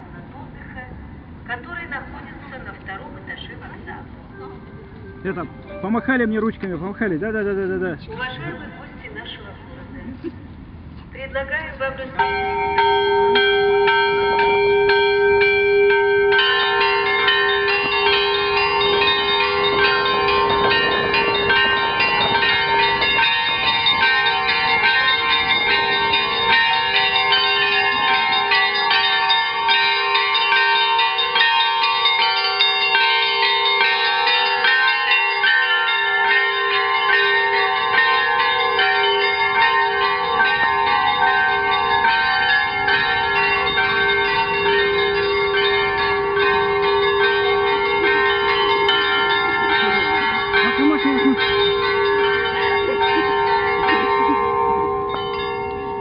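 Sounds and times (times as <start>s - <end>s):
bells ringing in a peal: 1.6s - 10.0s, 11.5s - 56.0s.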